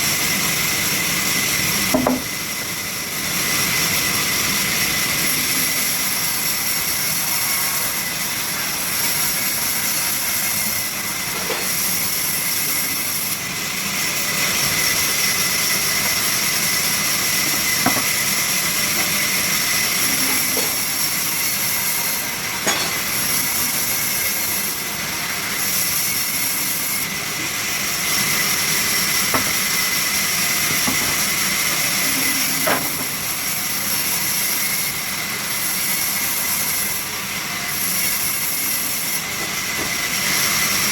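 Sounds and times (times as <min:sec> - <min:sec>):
sawmill machinery hissing: 0:00.0 - 0:40.9.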